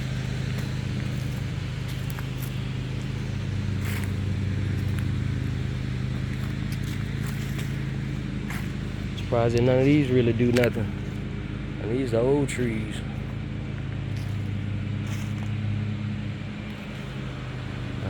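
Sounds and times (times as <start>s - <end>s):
footsteps on debris: 0.0s - 11.3s, 12.7s - 17.4s
lawn mower engine running: 0.0s - 18.0s.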